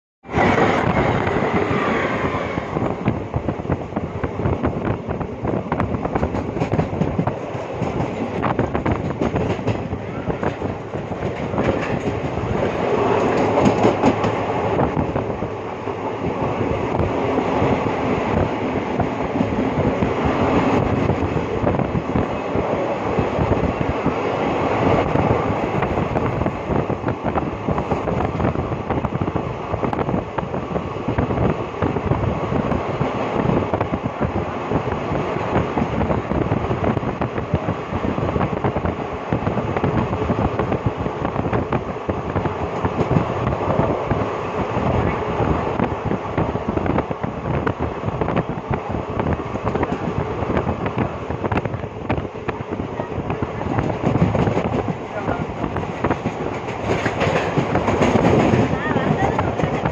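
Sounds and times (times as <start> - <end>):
train wheels rumbling on track: 0.2 - 59.9.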